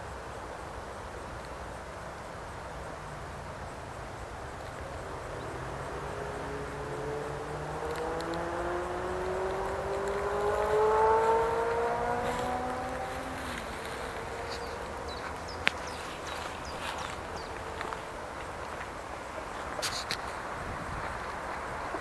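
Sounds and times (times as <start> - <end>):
vehicle engine accelerating: 2.8 - 22.0.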